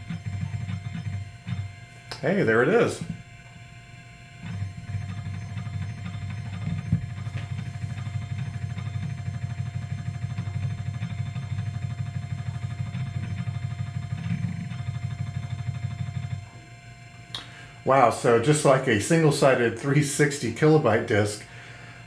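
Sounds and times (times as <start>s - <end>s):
disk drive mechanical rumble: 0.0s - 22.0s.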